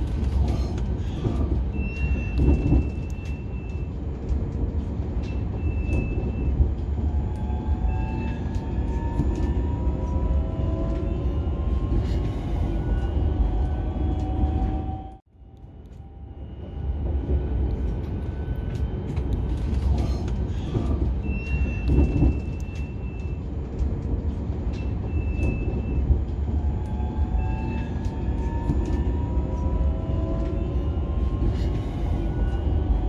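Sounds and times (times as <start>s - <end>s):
train rumbling inside carriage: 0.0s - 33.0s.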